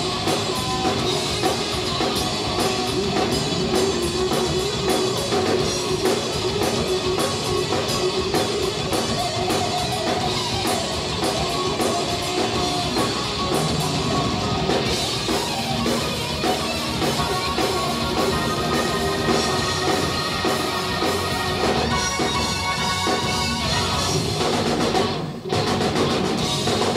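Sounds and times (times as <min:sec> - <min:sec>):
electric guitar solo: 0:00.0 - 0:26.4
bass guitar: 0:00.0 - 0:26.9
drum kit: 0:00.0 - 0:26.9.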